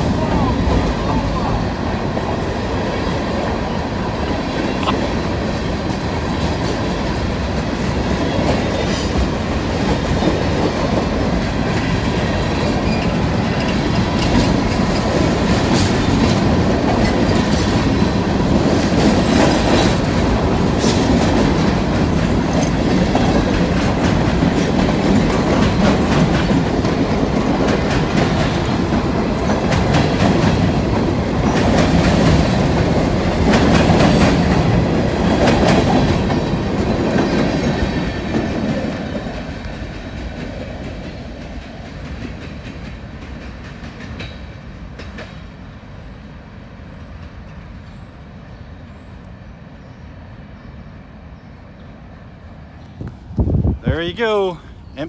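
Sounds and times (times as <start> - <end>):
wheels clacking over rail joints: 0.0 - 45.5
train cars rolling rumble: 0.0 - 55.0.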